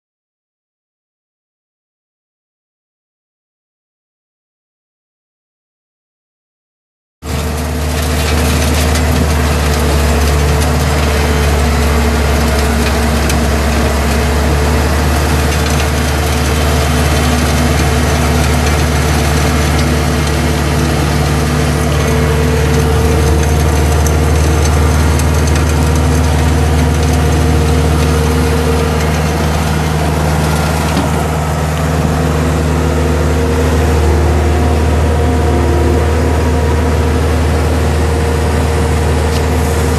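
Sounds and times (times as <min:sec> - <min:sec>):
cutting drum grinding ground: 0:07.2 - 0:39.9
diesel engine running under load: 0:07.2 - 0:39.9.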